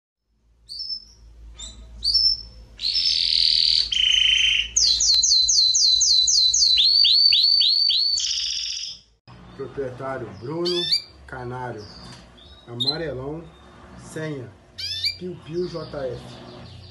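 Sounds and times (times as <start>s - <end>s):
canary singing: 0.6s - 16.9s.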